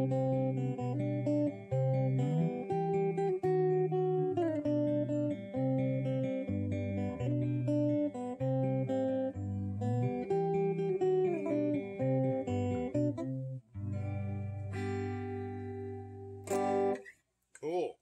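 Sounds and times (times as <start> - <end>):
electric guitar through amp: 0.0 - 17.0.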